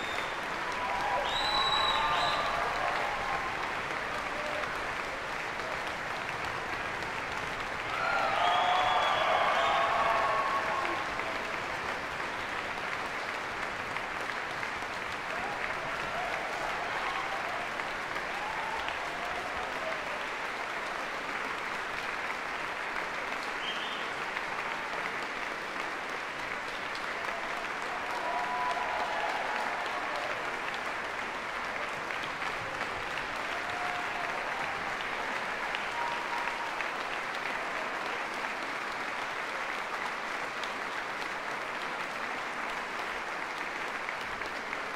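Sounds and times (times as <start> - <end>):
audience applauding: 0.0 - 44.9
audience calls: 0.0 - 44.9.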